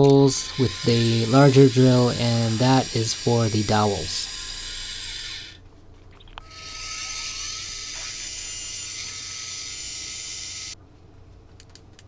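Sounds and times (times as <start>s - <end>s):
milling machine drilling: 0.0s - 5.6s, 6.4s - 10.8s.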